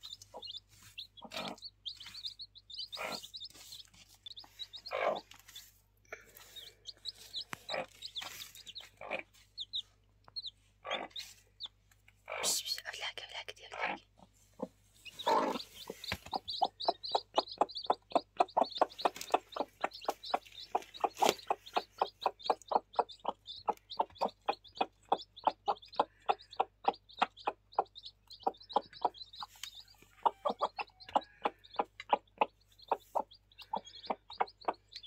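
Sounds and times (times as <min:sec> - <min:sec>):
chicks peeping: 0:00.0 - 0:12.5, 0:13.7 - 0:35.0
hen clucking: 0:00.0 - 0:12.7, 0:13.7 - 0:35.0.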